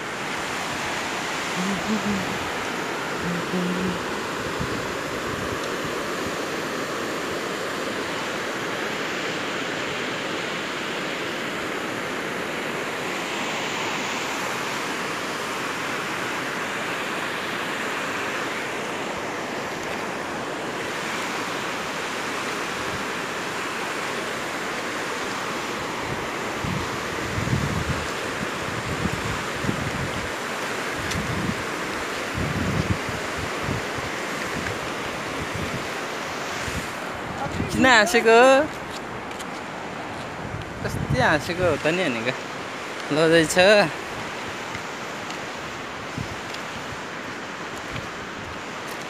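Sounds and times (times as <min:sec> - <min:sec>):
rushing river: 0:00.0 - 0:49.0.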